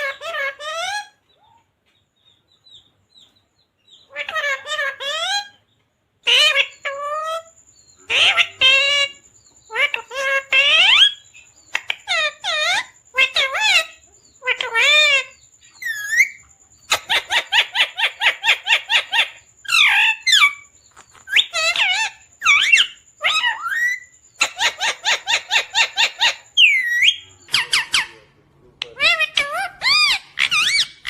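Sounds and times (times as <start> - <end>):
parrot chirping and squawking: 0.0 - 1.8, 2.5 - 31.0.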